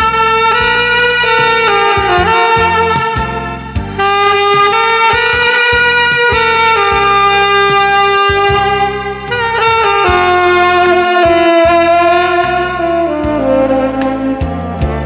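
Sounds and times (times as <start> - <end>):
backing track with steady beat: 0.0 - 15.0
saxophone playing slow melody: 0.0 - 15.0.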